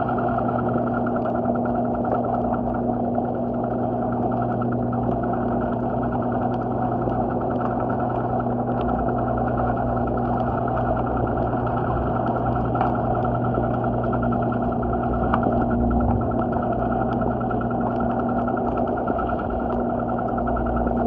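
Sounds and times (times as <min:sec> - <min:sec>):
steady machine drone: 0:00.0 - 0:21.0.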